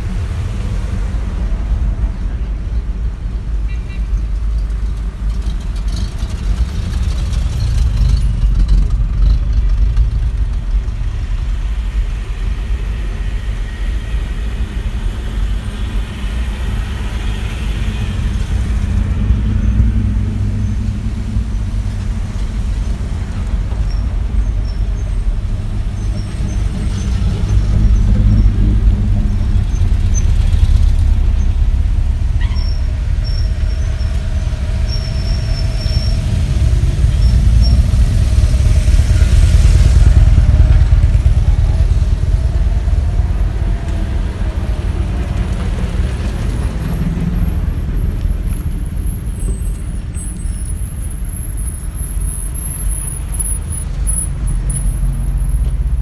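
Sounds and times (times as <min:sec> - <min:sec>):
cars driving past: 0:00.0 - 0:56.0.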